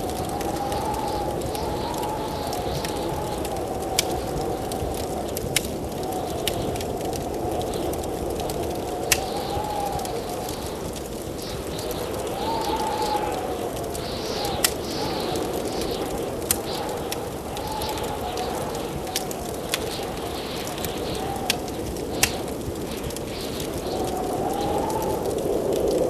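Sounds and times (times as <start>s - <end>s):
blizzard wind howling: 0.0s - 26.0s
wood fire crackling: 0.0s - 26.0s.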